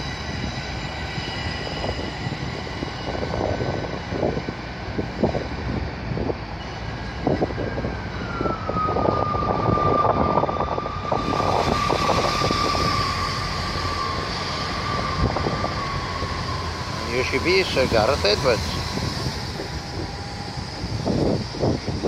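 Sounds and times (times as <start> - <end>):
high train whine: 0.0 - 22.0
train rumbling past: 0.0 - 22.0.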